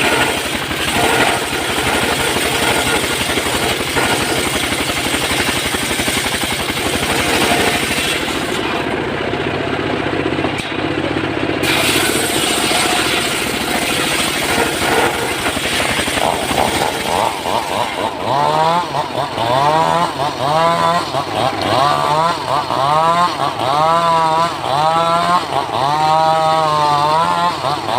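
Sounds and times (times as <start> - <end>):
chainsaw cutting wood: 0.0 - 10.7, 11.6 - 27.9.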